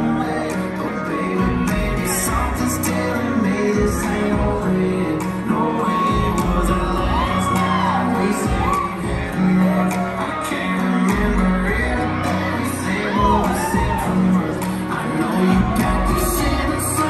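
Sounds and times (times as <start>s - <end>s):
crowd whooping and shouting: 0.0s - 17.0s
song over sound system: 0.0s - 17.0s.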